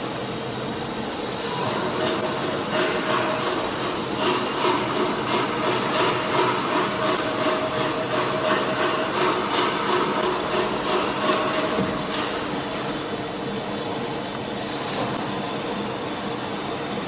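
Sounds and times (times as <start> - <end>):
machine hiss: 0.0 - 17.0.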